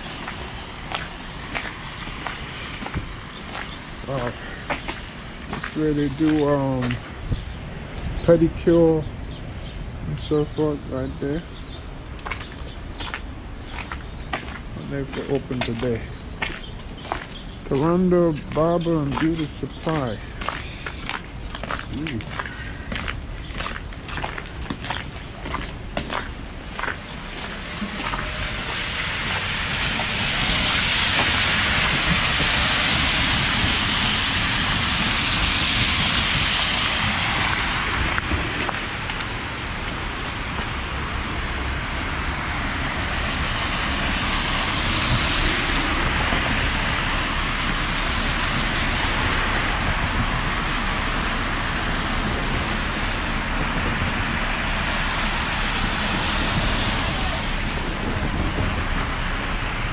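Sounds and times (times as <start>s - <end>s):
tyres hissing on wet pavement: 0.0s - 7.2s, 12.4s - 59.9s.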